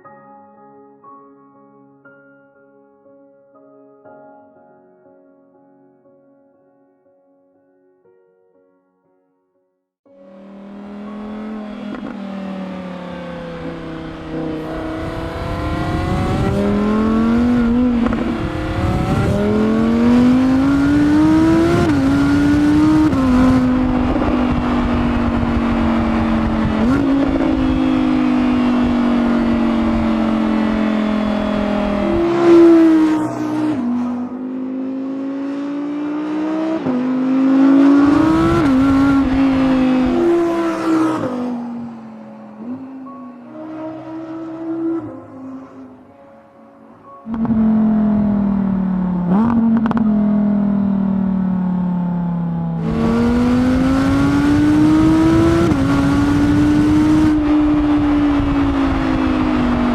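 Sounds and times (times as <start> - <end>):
car engine accelerating through gears: 10.3 - 46.0, 47.3 - 59.9.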